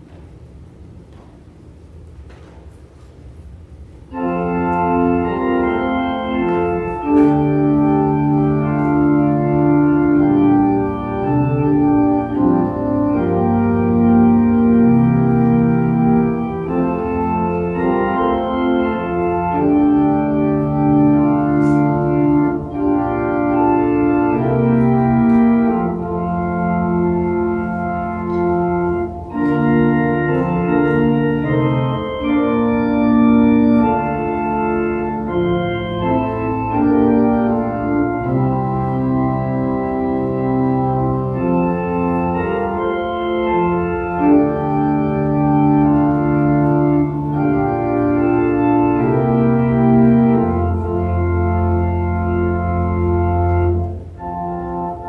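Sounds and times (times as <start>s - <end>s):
church organ playing chords: 2.8s - 55.0s.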